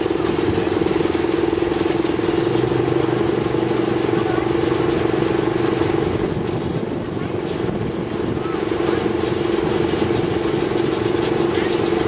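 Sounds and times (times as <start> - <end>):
small locomotive engine pulsing: 0.0 - 12.0.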